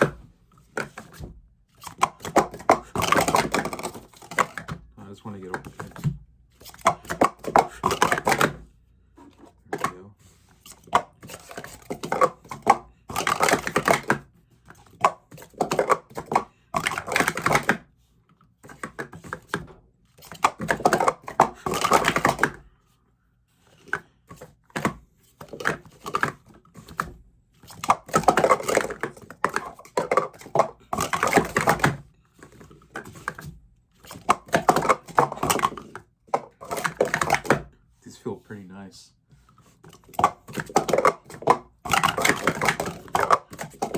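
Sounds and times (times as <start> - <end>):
plastic cups clattering: 0.0 - 17.9, 18.6 - 22.8, 23.7 - 37.8, 39.5 - 43.9.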